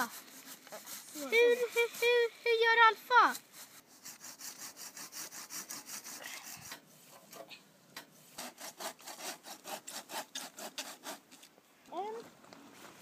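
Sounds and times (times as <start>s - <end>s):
hand saw cutting wood: 0.0s - 7.4s, 8.0s - 11.5s.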